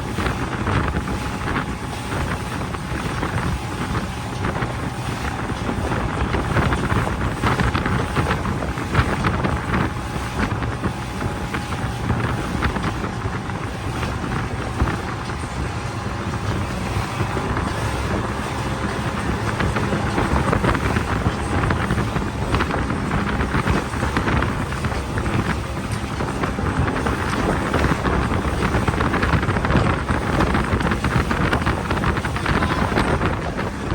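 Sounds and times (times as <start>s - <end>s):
boat engine drone: 0.0s - 33.9s
wind buffeting microphone: 0.0s - 33.9s.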